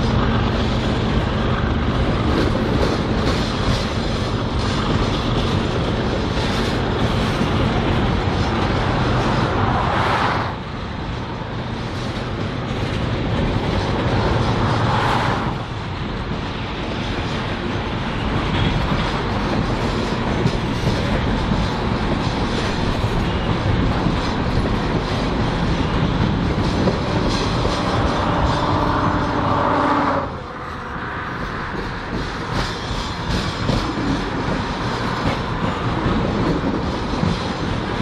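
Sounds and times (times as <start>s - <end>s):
diesel locomotive engine drone: 0.0s - 38.0s
train wheels rumbling on rails: 0.0s - 38.0s.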